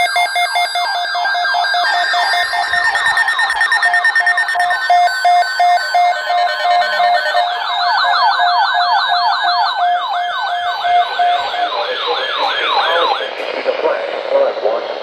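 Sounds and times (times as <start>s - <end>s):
rapid falling siren-like whoop: 0.0s - 13.3s
pulsed beeping tone: 0.0s - 13.6s.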